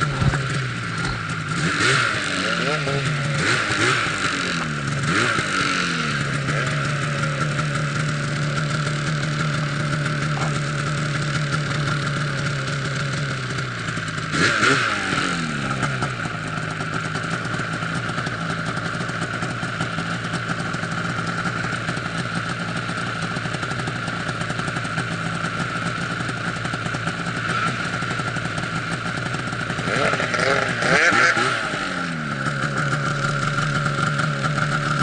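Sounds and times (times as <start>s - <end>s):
snowmobile engine idling and revving: 0.0s - 35.0s.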